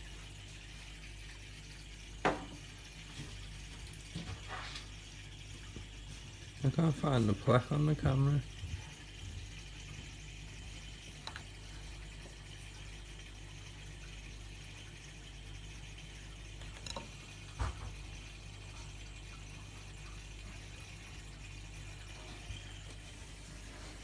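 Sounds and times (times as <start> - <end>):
mains hum from pumps: 0.0 - 24.0
water bubbling and trickling: 0.0 - 24.0.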